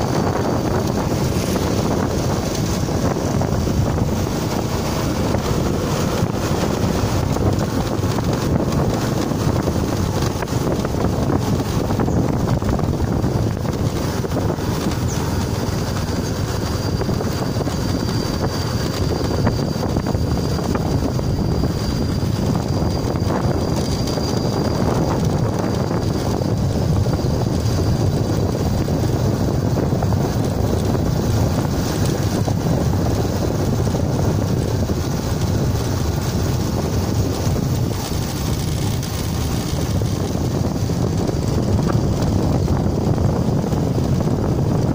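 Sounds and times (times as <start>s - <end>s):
vehicle road noise: 0.0s - 44.9s
wind on microphone: 0.0s - 44.9s.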